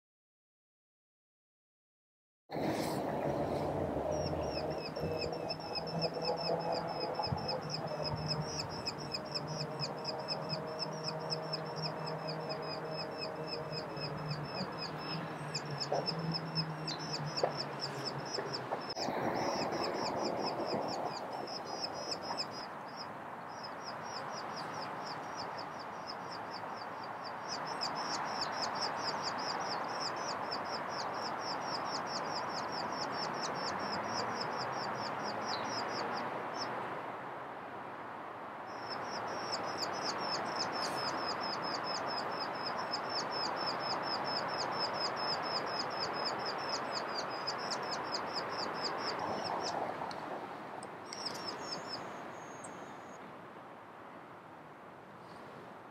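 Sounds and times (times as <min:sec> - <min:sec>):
steady background noise: 0:02.5 - 0:55.9
skylark singing: 0:04.0 - 0:36.2, 0:38.7 - 0:49.8, 0:51.1 - 0:53.2.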